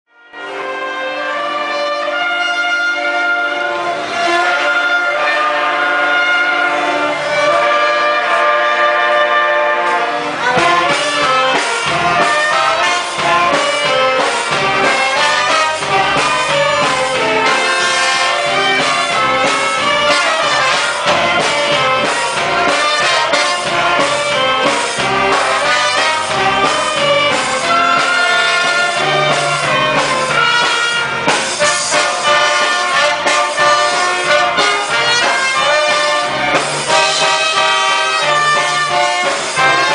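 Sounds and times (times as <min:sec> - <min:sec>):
orchestra playing christmas music: 0:00.1 - 0:39.9.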